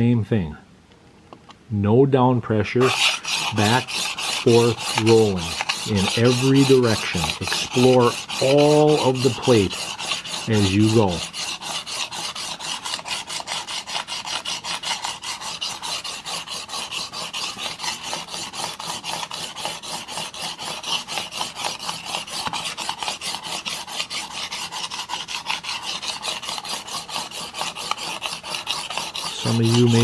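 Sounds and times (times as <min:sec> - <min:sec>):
blade scraping on sharpening plate: 0:02.8 - 0:30.0.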